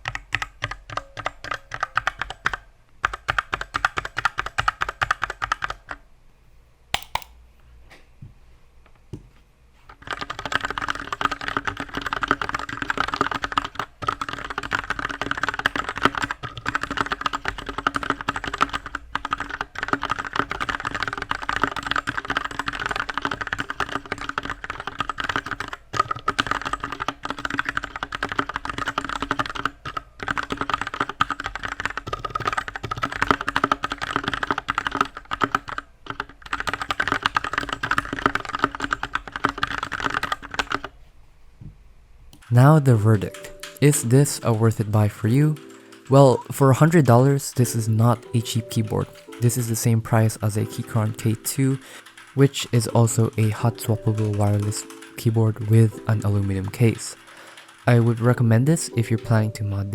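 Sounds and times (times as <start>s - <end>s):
mechanical keyboard typing: 0.0s - 6.0s, 7.0s - 7.4s, 9.9s - 40.9s, 42.4s - 59.9s.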